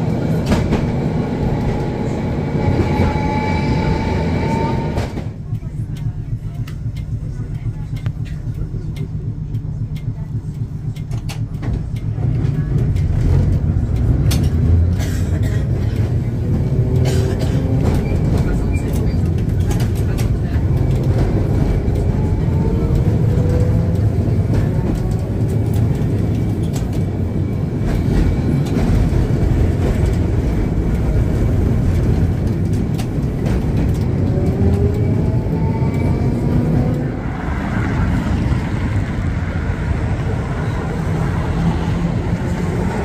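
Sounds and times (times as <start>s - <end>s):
tram running on rails: 0.0s - 43.0s.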